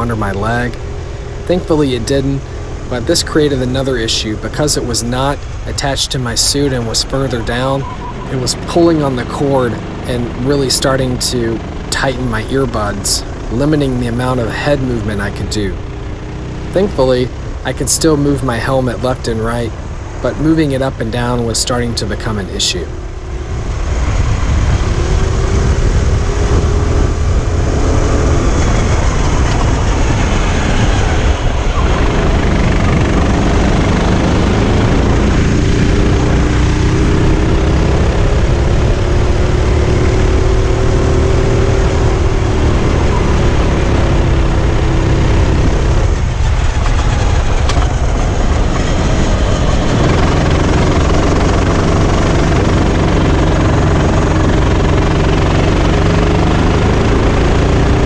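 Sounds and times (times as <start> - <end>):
kart engine running hard: 0.0 - 58.0.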